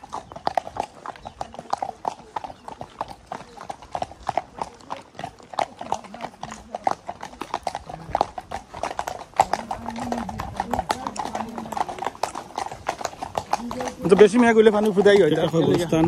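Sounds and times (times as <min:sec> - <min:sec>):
hooves clip-clopping on tarmac: 0:00.0 - 0:16.0.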